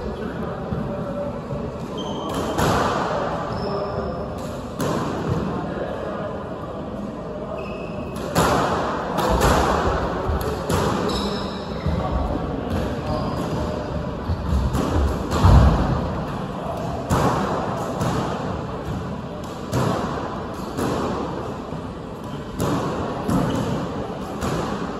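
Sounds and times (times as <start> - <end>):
squash ball hits echoing: 1.8 - 3.6, 4.2 - 5.8, 8.1 - 24.9.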